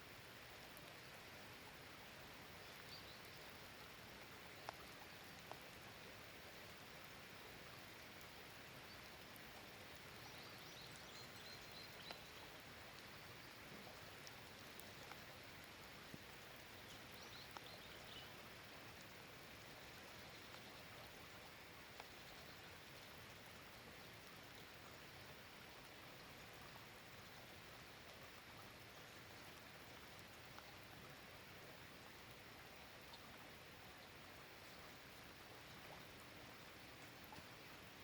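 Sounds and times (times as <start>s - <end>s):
light rain hiss: 0.0s - 38.0s.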